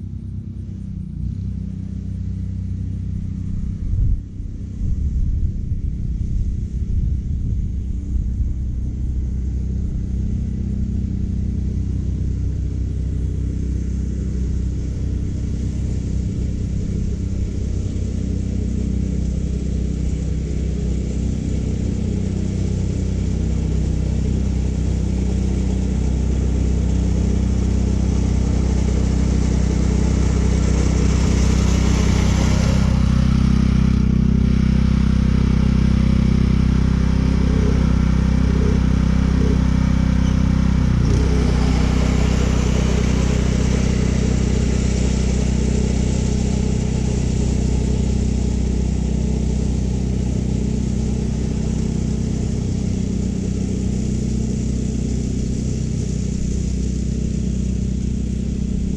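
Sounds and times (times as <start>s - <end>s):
reel mower engine running: 8.1s - 58.9s.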